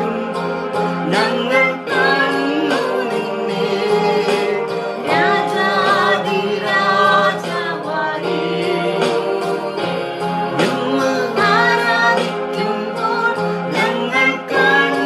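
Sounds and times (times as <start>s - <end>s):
instrumental accompaniment: 0.0s - 15.0s
person singing a melody: 0.0s - 15.0s.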